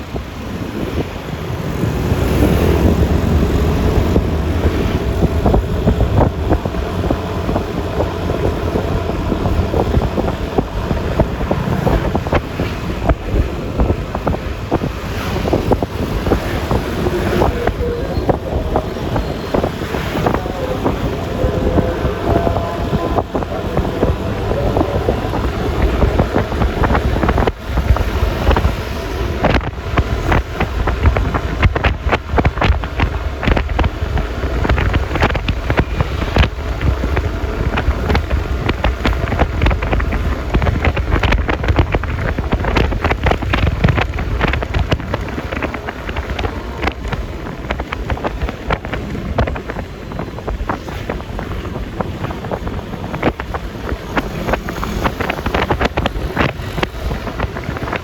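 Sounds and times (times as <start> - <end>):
scooter engine and road rumble: 0.0 - 58.0
wind buffeting microphone: 0.0 - 58.0.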